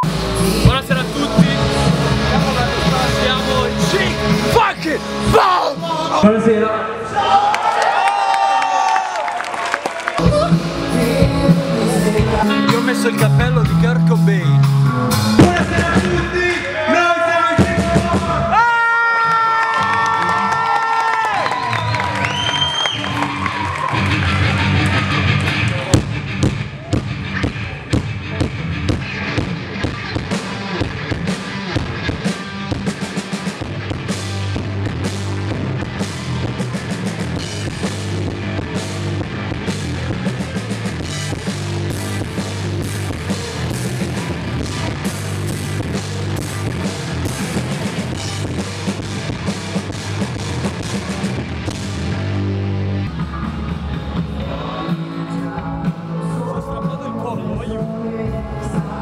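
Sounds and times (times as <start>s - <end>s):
punk rock band playing: 0.0s - 6.7s, 10.1s - 59.0s.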